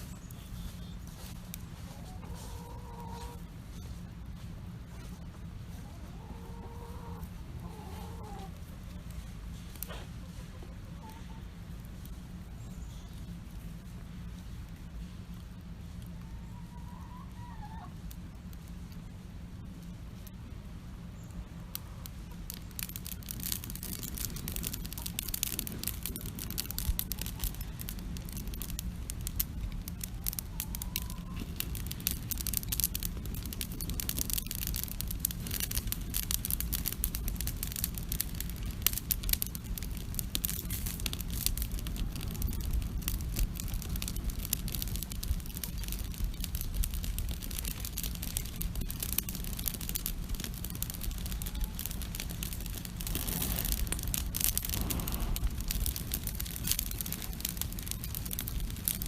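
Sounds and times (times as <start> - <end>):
campfire crackling and popping: 0.0 - 6.3, 7.1 - 16.2, 17.9 - 59.0
steady low rumble: 0.0 - 59.0.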